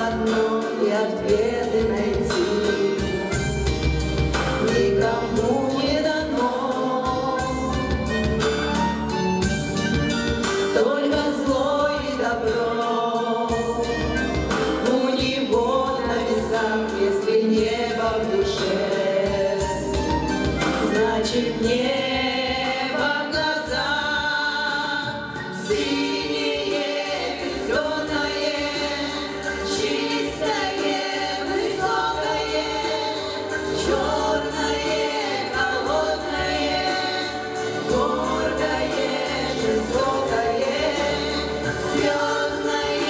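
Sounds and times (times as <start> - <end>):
women singing in harmony: 0.0 - 3.6, 4.3 - 8.5, 10.7 - 43.0.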